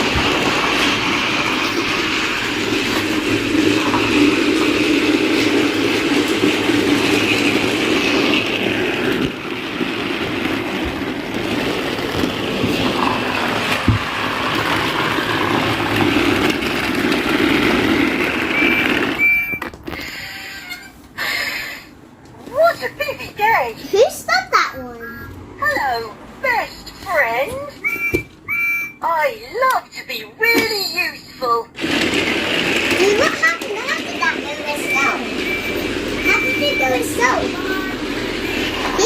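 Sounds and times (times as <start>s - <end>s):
toy train motor whirring: 0.0s - 21.8s, 26.5s - 29.0s, 30.4s - 39.0s.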